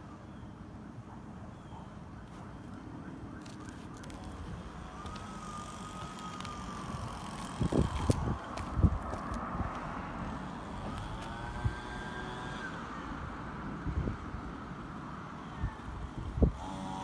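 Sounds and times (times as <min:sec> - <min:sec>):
steady outdoor rumble: 0:00.0 - 0:17.0.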